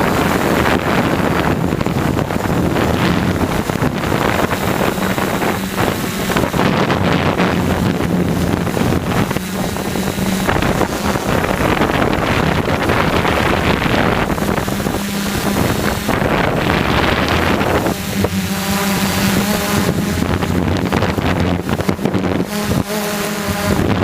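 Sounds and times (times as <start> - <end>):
higher motor tones: 0.0 - 24.0
quadcopter motors and propellers: 0.0 - 24.0
wind buffeting microphone: 0.0 - 24.0.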